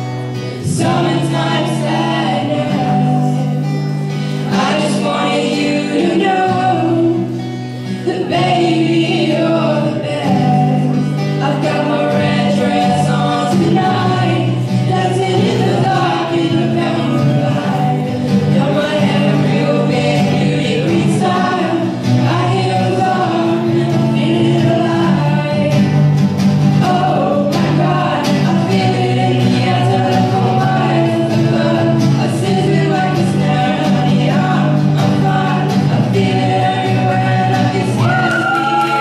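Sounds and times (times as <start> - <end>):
acoustic guitar strumming: 0.0 - 39.0
group of voices singing: 0.0 - 39.0.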